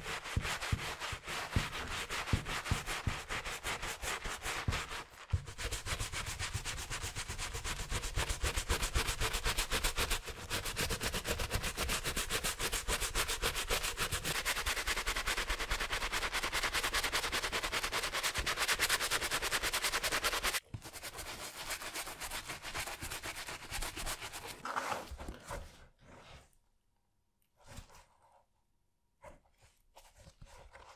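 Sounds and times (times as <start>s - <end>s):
brush scrubbing a sneaker: 0.0s - 25.3s, 29.9s - 30.9s.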